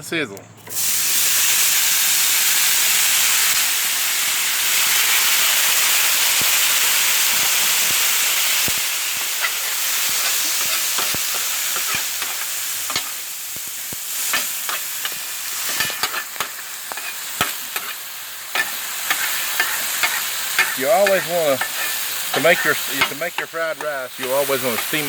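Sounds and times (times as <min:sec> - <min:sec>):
rice sizzling on griddle: 0:00.7 - 0:25.0.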